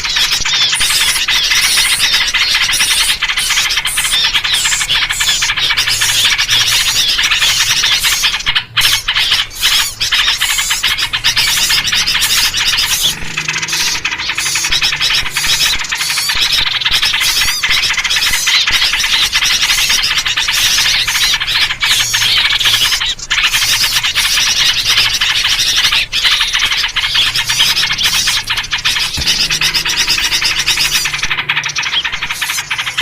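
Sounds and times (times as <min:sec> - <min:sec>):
songbirds chattering chorus: 0:00.0 - 0:33.0.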